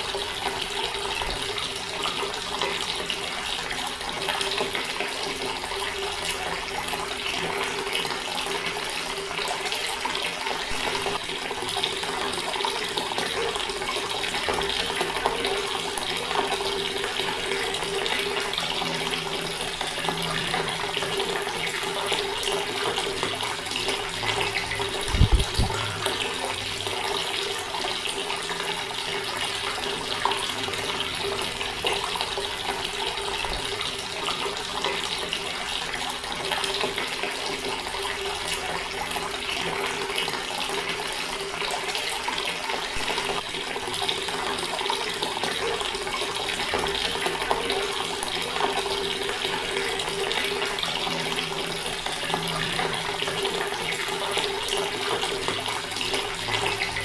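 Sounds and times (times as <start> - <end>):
water running from tap: 0.0 - 57.0.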